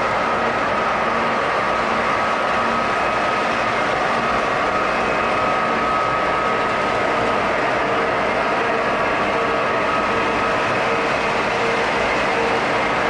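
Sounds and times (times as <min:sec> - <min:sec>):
model train wheels on rail: 0:00.0 - 0:13.0.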